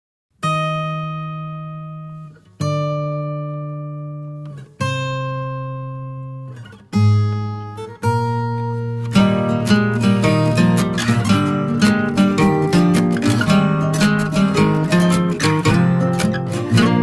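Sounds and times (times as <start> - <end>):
acoustic guitar strumming chords: 0.4 - 17.0.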